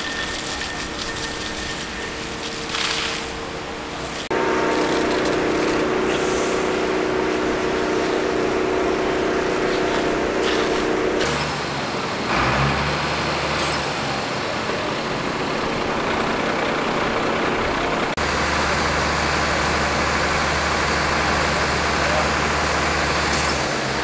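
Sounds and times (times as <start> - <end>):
fire engine and pump hum: 0.0 - 24.0.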